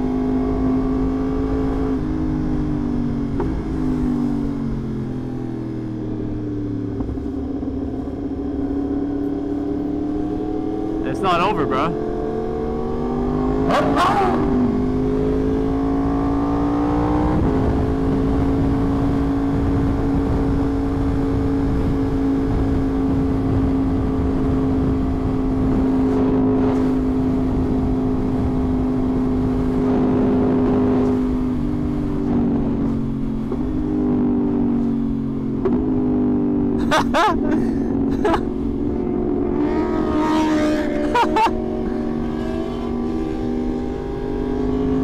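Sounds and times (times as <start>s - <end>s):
motorcycle engine cruising: 0.0s - 45.0s
wind and road noise: 0.0s - 45.0s.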